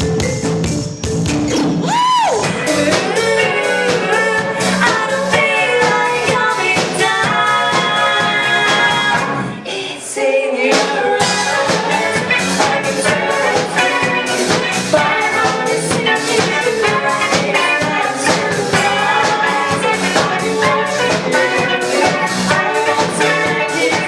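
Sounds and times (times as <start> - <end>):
music with steady beat: 0.0 - 9.4, 11.2 - 24.0.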